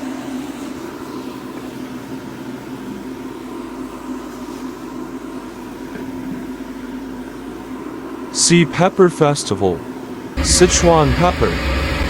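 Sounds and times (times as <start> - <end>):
mechanical hum and whir: 0.0 - 12.0.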